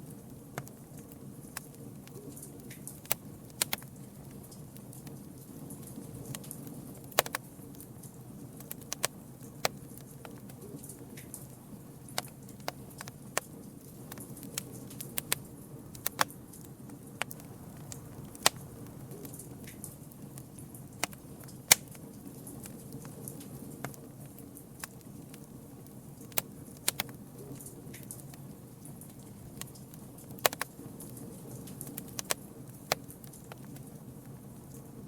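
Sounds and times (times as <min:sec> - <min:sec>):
burning wood crackling and popping: 0:00.0 - 0:35.0
low rumble of flames: 0:00.0 - 0:35.0.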